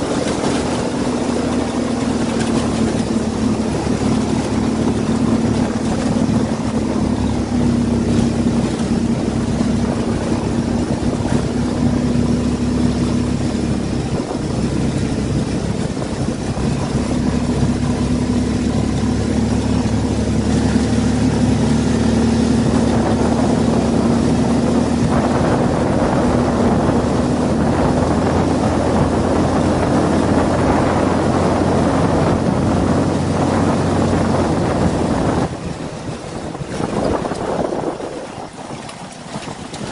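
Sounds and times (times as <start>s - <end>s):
buggy engine running: 0.0s - 39.9s.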